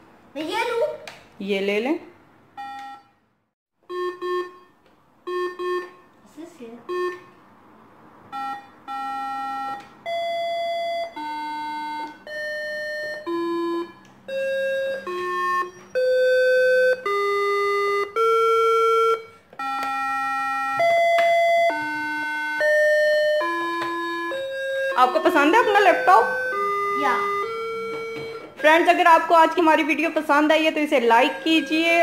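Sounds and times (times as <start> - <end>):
toy laptop beeping tune: 2.6 - 3.1, 3.9 - 6.1, 6.9 - 7.3, 8.3 - 32.0.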